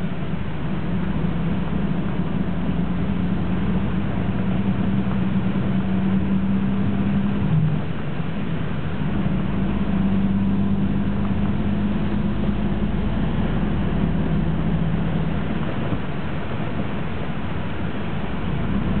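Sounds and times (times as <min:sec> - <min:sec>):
bus engine drone: 0:00.0 - 0:19.0
road and tyre noise: 0:00.0 - 0:19.0.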